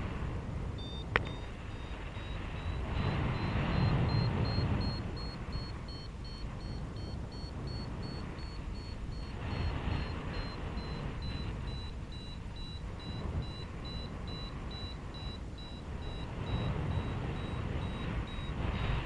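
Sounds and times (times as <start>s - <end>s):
wind on microphone: 0.0s - 19.0s
short high beeps: 0.7s - 19.0s.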